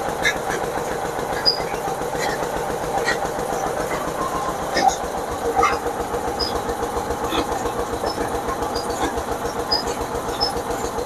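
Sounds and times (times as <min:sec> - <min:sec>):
oil press machine drone: 0:00.0 - 0:11.0.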